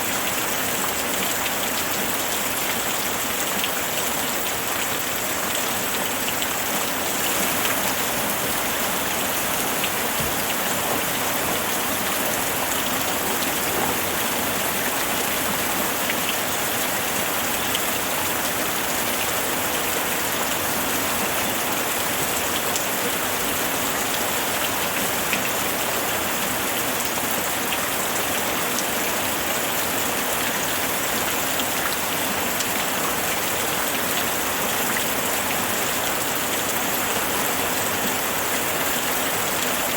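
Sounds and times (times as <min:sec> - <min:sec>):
rain pattering: 0:00.1 - 0:39.9.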